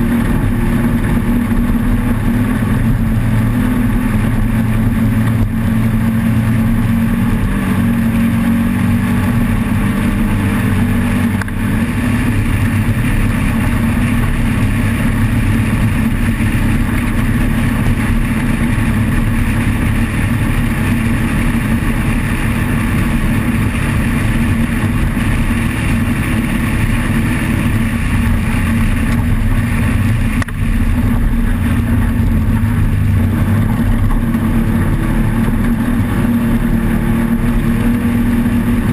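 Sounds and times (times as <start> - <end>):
race vehicle engine running hard: 0.0 - 38.9.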